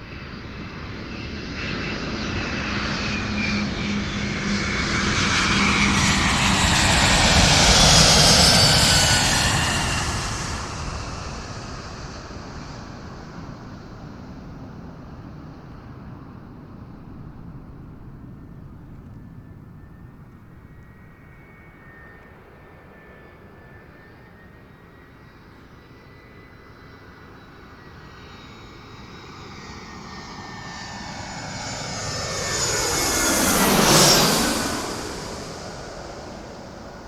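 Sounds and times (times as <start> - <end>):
airplane engine whine: 0.0 - 37.0.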